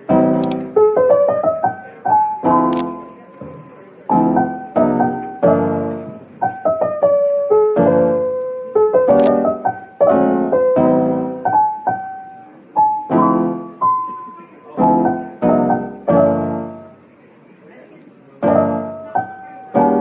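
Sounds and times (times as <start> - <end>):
piano music: 0.0 - 17.2, 18.4 - 20.0.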